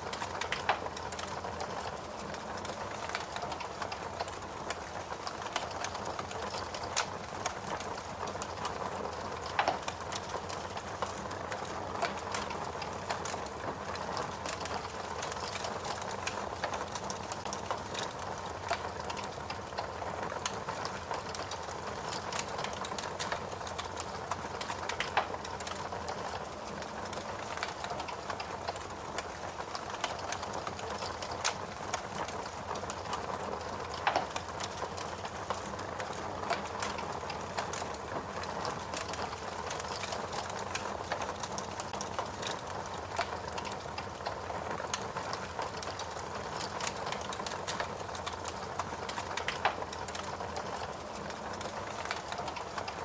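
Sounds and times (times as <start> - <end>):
fire crackling and popping: 0.0 - 53.0
wood fire hissing: 0.0 - 53.0.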